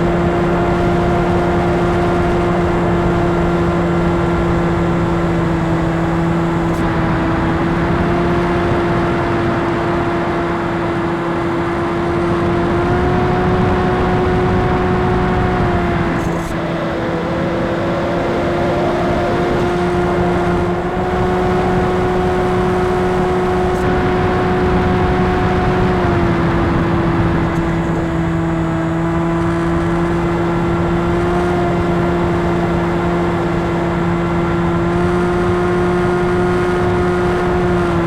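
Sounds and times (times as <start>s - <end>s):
electric motor and propeller droning: 0.0s - 38.0s.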